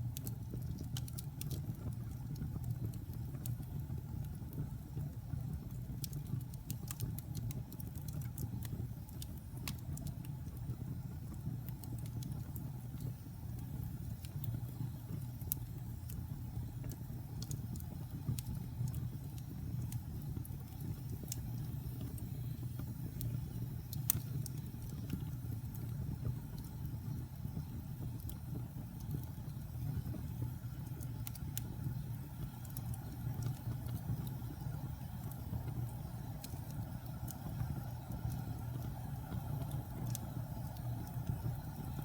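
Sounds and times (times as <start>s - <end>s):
logs burning with crackles: 0.0s - 42.0s.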